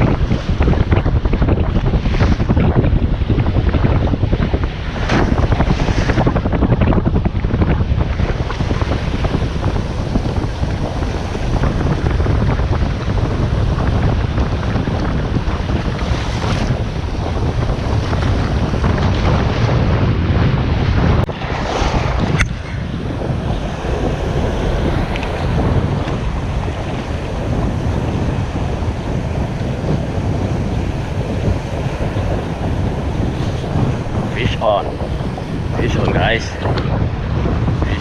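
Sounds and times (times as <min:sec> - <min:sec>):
waves breaking on shore: 0:00.0 - 0:38.0
wind buffeting microphone: 0:00.0 - 0:38.0.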